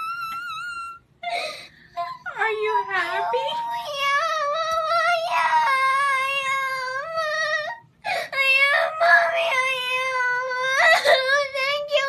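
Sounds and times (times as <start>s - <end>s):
girl crying in high wails: 0.0s - 12.0s.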